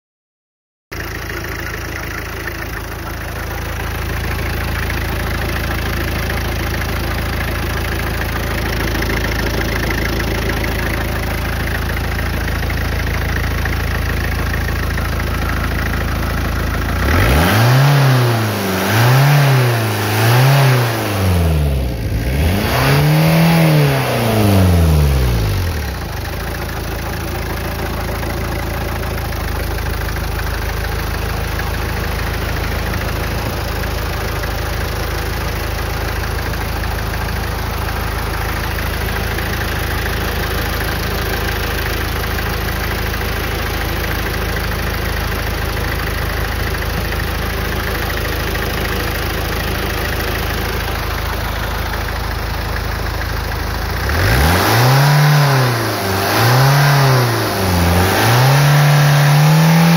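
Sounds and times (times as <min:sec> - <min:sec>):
diesel engine idling and revving: 0:00.9 - 0:59.9.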